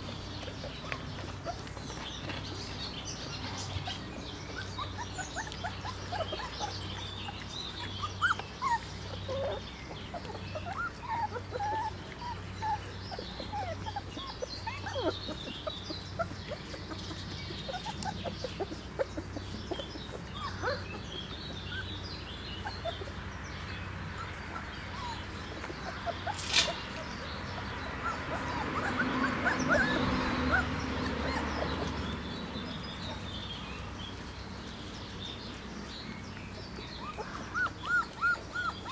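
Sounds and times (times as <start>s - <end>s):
puppies squeaking and whimpering: 0.0s - 35.6s, 36.5s - 38.9s.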